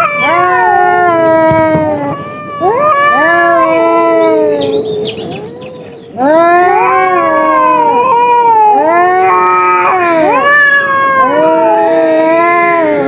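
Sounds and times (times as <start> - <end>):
cats yowling: 0.0 - 13.0.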